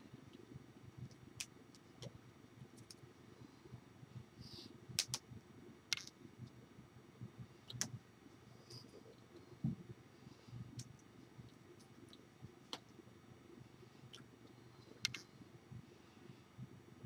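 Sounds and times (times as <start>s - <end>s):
low room noise: 0.0s - 17.0s.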